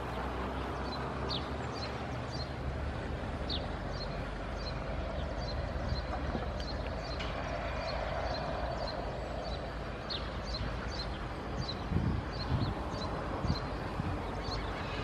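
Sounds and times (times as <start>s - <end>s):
airport background rumble: 0.0s - 15.0s.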